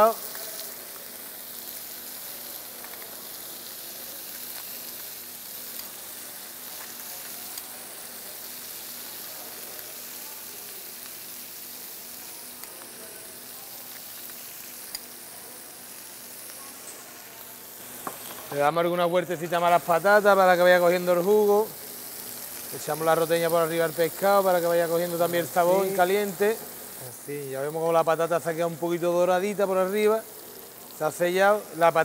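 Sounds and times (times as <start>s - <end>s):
fish and potatoes sizzling in oil: 0.0s - 32.0s.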